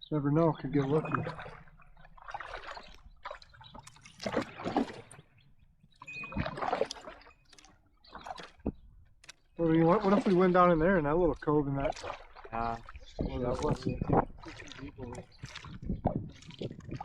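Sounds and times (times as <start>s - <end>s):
water trickling: 0.0s - 17.0s
paddle strokes splashing water: 0.6s - 17.0s.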